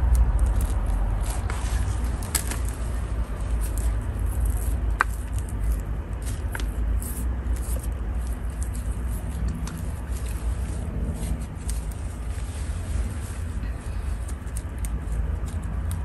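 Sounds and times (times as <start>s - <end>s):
rustling and crackling of carrots: 0.0s - 16.0s
steady low rumble: 0.0s - 16.0s.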